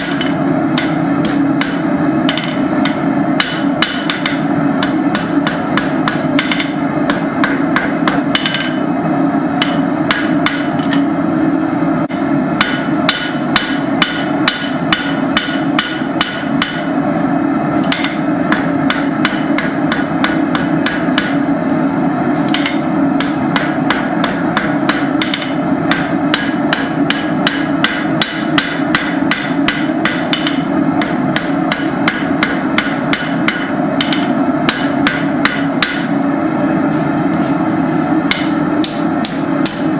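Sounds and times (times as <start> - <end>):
hammer striking steel on anvil: 0.0 - 8.9, 9.6 - 11.1, 12.1 - 17.0, 17.8 - 21.5, 22.4 - 36.2, 38.2 - 39.9
steady hum: 0.0 - 39.9.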